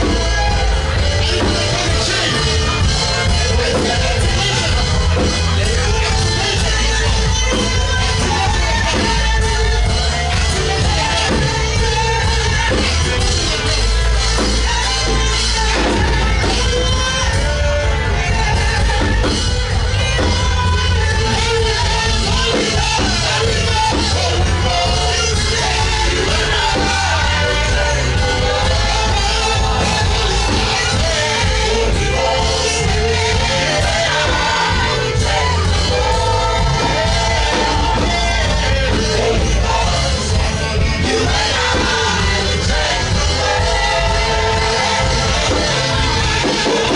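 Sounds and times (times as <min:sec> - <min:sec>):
band with heavy bass and drums: 0:00.0 - 0:46.9
singer and congregation singing: 0:00.0 - 0:46.9.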